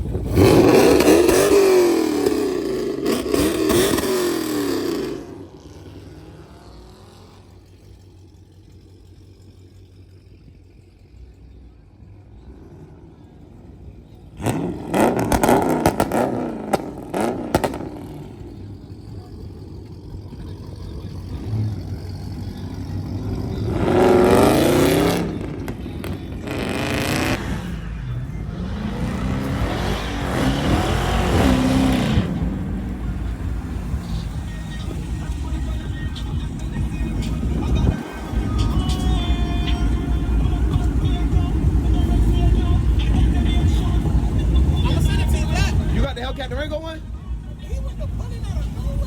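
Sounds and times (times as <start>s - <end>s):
crackling engine burst: 0.0s - 10.6s, 14.4s - 46.6s
car engines revving: 0.0s - 49.0s.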